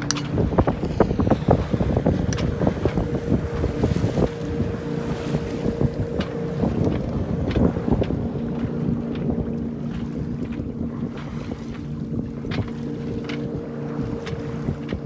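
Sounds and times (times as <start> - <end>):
water slapping against hull: 0.0 - 15.0
wind buffeting microphone: 0.0 - 15.0.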